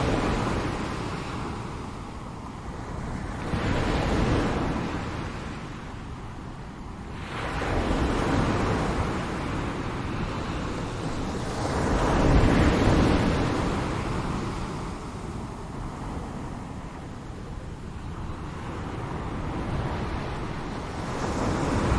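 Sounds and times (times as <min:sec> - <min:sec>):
ocean waves breaking on shore: 0:00.0 - 0:21.9.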